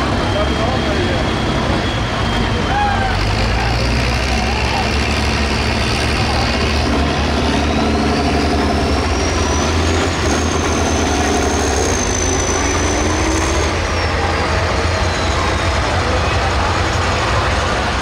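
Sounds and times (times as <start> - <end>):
diesel tractor engine rumble: 0.0 - 18.0.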